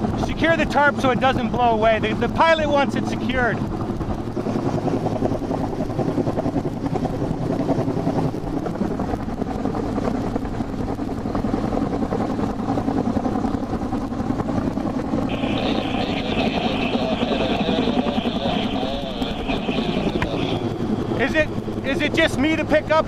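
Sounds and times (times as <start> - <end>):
helicopter rotor and engine: 0.0 - 23.0.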